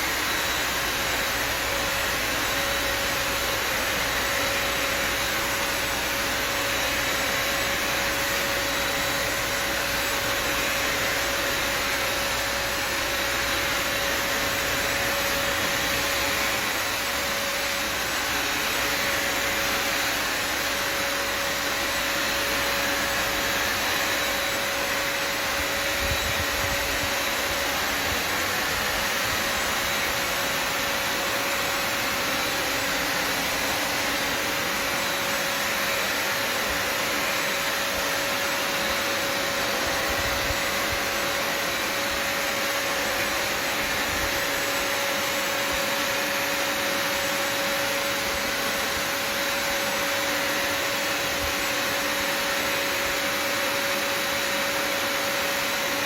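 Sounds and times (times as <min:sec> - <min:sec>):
vacuum motor running: 0:00.0 - 0:56.0.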